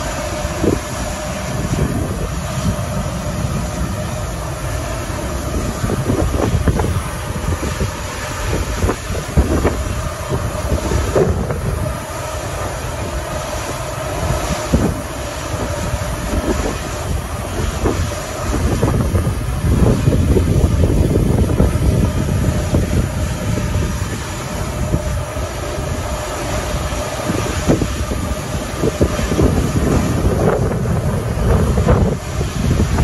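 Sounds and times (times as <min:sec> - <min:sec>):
jet engines rumbling and whining: 0:00.0 - 0:33.0
wind buffeting microphone: 0:00.0 - 0:33.0.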